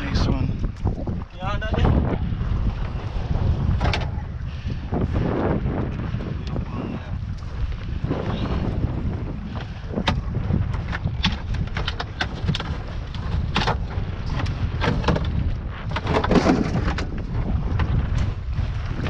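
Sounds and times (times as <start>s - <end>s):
knocks and clatters in boat: 0.0s - 4.4s, 7.3s - 19.0s
wind buffeting microphone: 0.0s - 19.0s.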